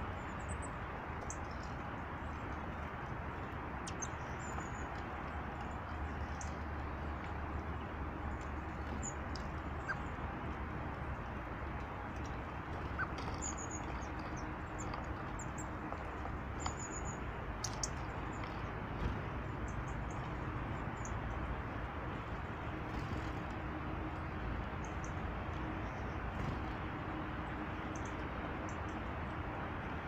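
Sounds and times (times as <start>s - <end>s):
small birds chirping: 0.0s - 29.9s
steady rushing noise: 0.0s - 30.0s.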